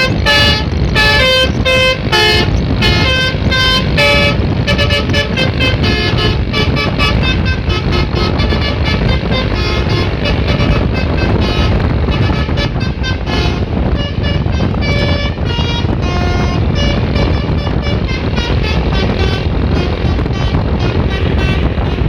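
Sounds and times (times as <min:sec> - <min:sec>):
bus horn melody: 0:00.0 - 0:22.0
low rumble: 0:00.0 - 0:22.0.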